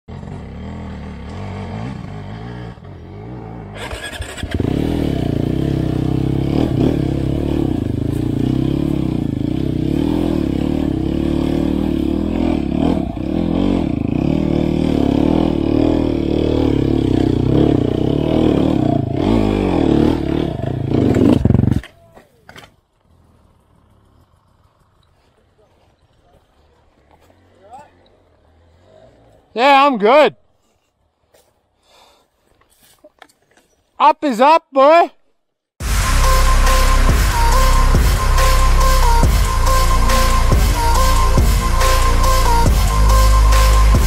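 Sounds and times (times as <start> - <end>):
dirt bike engine running: 0.1 - 21.8, 23.2 - 29.5, 35.8 - 44.0.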